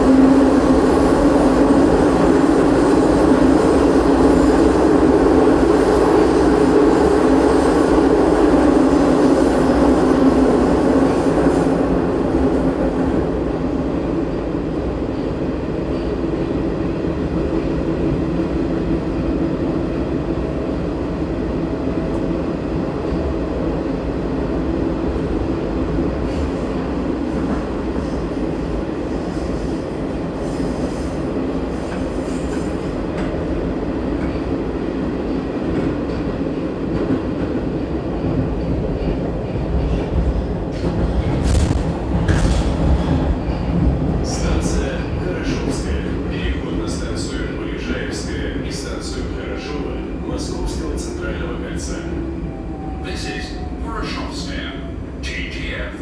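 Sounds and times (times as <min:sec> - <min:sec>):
metro car wheels rumbling on rail: 0:00.0 - 0:56.0.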